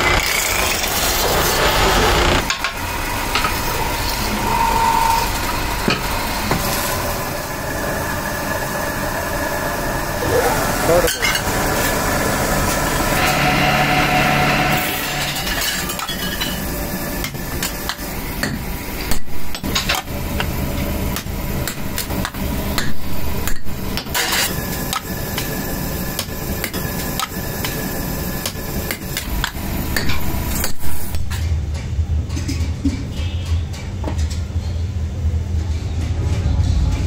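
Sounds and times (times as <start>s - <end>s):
workshop machine hum: 0.0s - 37.0s.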